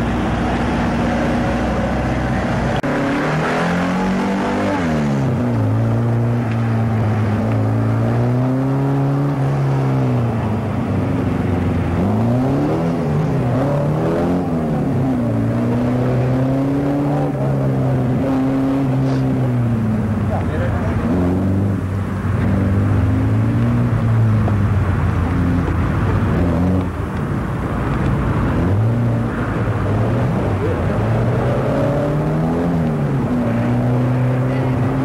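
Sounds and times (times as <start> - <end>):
car engine revving hard: 0.0 - 27.0, 28.2 - 35.0.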